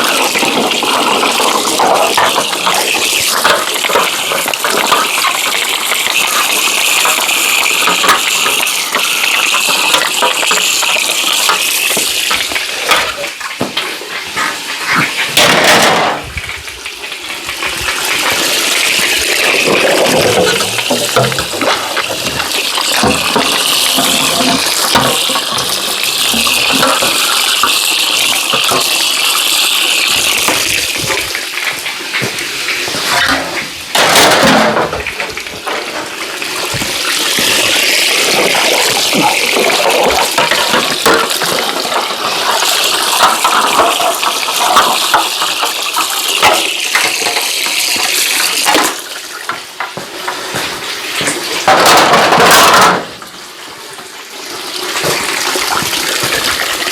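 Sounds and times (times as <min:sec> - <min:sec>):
water running from a tap: 0:00.0 - 0:15.4, 0:16.2 - 0:34.3, 0:34.9 - 0:56.9
water splashing over parts: 0:00.0 - 0:56.9.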